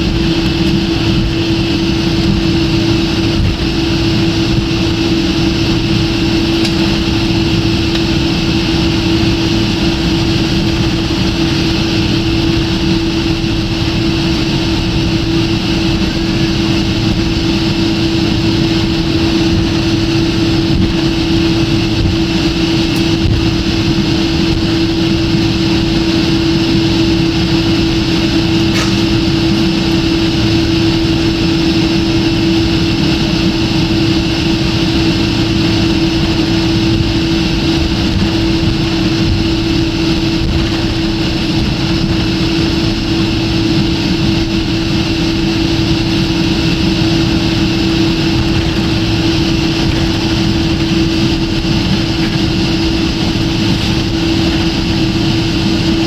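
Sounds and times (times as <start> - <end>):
airliner cabin engine noise: 0.0 - 56.0.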